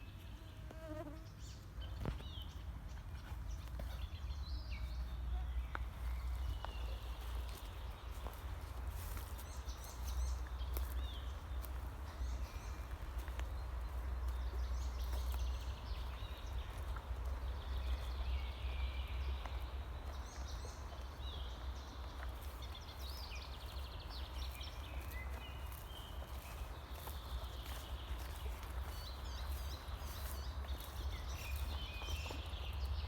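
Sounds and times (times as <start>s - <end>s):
songbirds chirping and trilling: 0.0s - 33.0s
faint footstep clicks: 5.7s - 32.9s.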